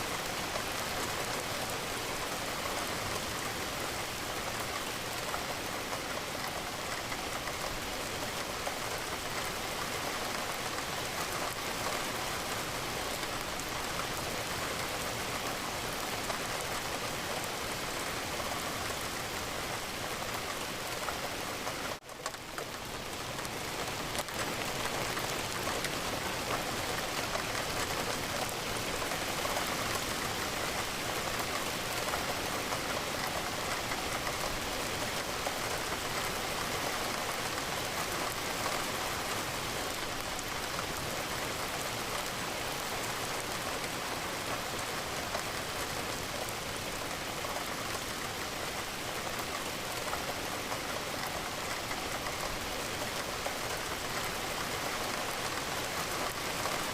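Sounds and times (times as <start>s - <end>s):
rain on a window: 0.0s - 56.9s.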